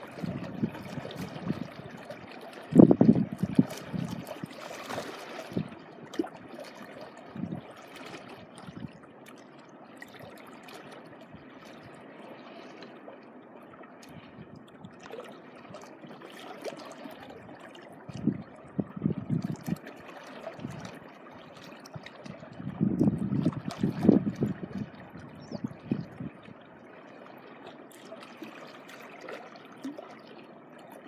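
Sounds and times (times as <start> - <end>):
small waves lapping: 0.0 - 31.0.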